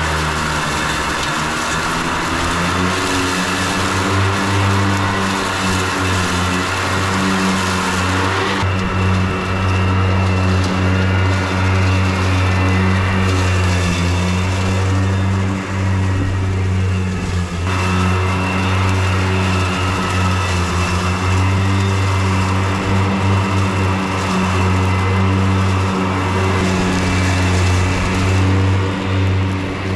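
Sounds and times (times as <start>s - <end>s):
electric mower hum: 0.0s - 29.9s
hiss of grass being cut: 0.0s - 29.9s.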